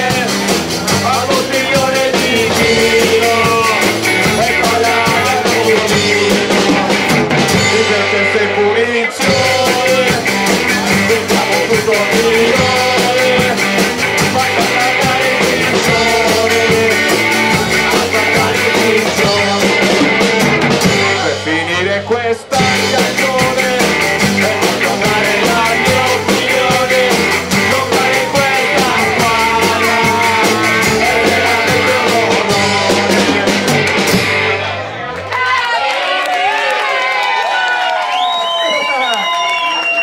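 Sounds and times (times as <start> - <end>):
person singing: 0.0 - 34.0
drum kit: 0.0 - 34.9
electric and acoustic guitars: 0.0 - 35.4
bass guitar: 0.0 - 35.6.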